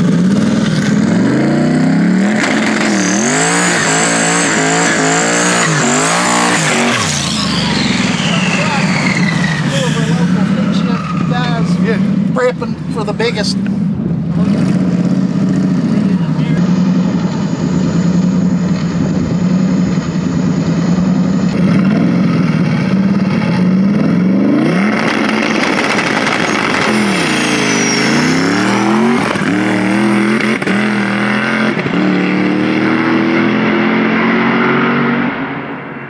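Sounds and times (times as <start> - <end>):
engine gear upshifts: 0.0 - 35.4
drag car engine revving: 0.0 - 35.8.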